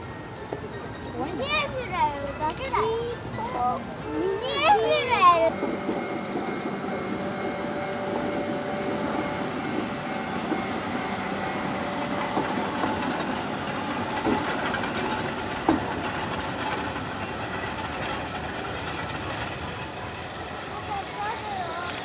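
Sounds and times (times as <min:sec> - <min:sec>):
locomotive wheels rumbling on rails: 0:00.0 - 0:22.0.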